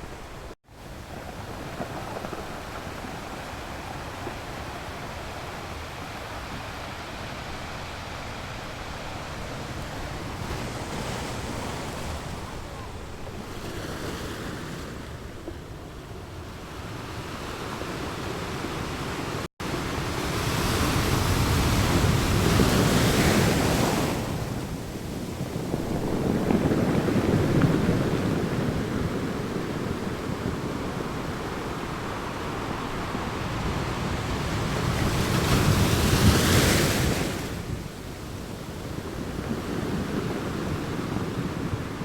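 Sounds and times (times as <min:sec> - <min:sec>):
sea waves breaking: 0:00.0 - 0:42.0.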